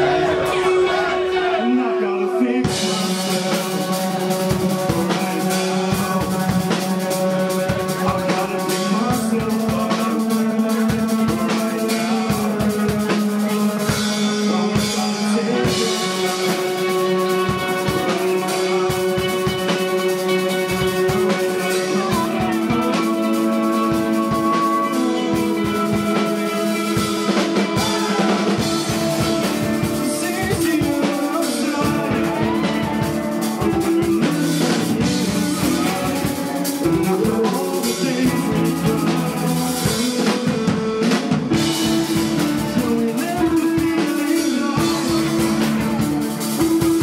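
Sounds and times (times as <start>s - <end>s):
drum kit: 0.0s - 1.8s, 2.4s - 47.0s
electric guitars: 0.0s - 47.0s
person singing: 0.0s - 47.0s.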